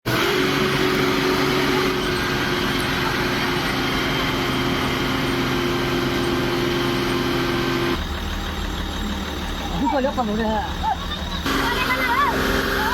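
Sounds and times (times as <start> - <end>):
heavy truck engine droning: 0.0 - 12.9.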